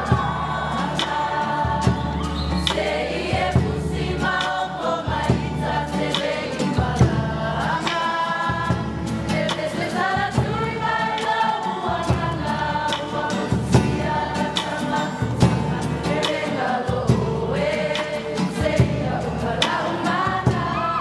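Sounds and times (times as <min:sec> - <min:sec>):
drum beats: 0:00.0 - 0:21.0
group singing in chorus: 0:00.0 - 0:21.0.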